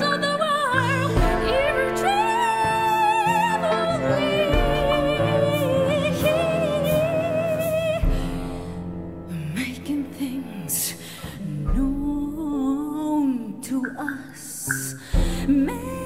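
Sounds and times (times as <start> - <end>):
woman singing with vibrato: 0.0 - 16.0.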